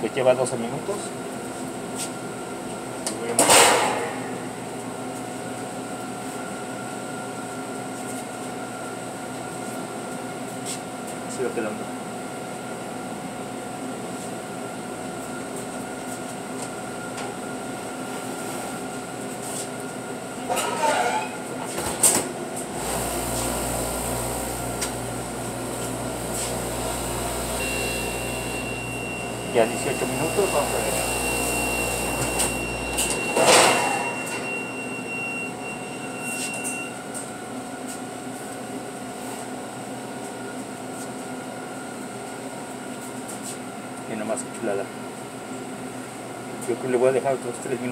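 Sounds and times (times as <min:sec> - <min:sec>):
oven and exhaust fans droning: 0:00.0 - 0:47.9.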